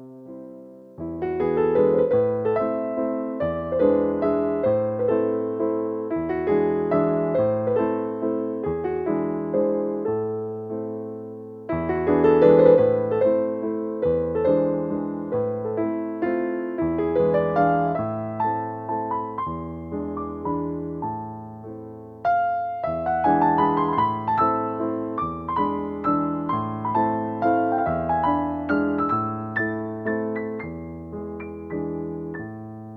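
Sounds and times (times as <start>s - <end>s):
gentle solo piano piece: 0.0s - 32.9s.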